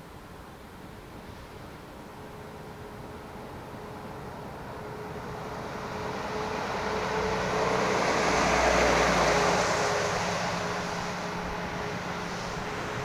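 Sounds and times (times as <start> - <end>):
truck driving past: 1.4 - 13.0.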